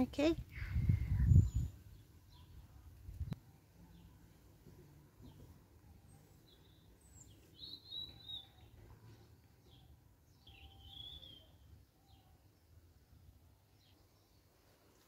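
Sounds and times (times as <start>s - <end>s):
faint bird chirping: 0.2s - 15.0s.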